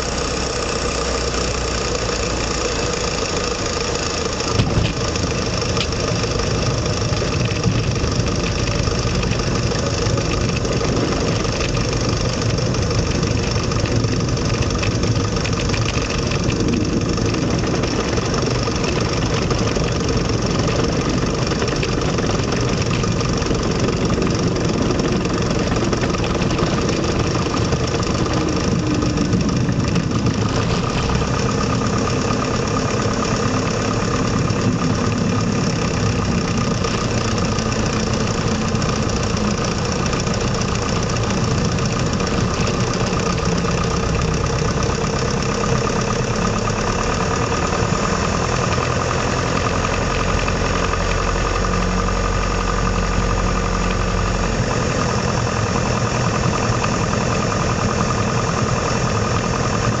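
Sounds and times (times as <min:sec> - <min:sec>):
propeller plane engine droning: 0:00.0 - 1:00.0
deep low hum: 0:01.5 - 1:00.0.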